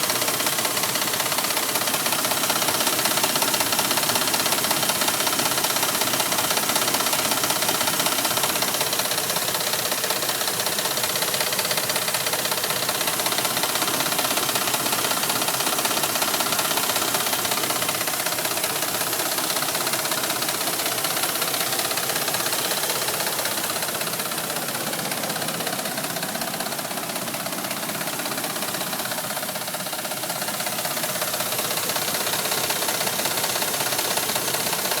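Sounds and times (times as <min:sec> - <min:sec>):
fast engine ticking: 0:00.0 - 0:35.0
truck engine running: 0:00.0 - 0:35.0.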